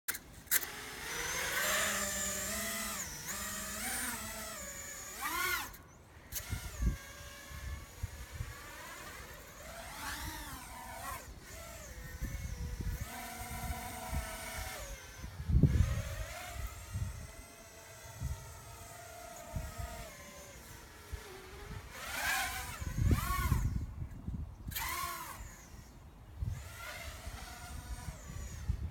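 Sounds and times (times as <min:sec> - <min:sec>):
drone motors whining: 0:00.1 - 0:28.9.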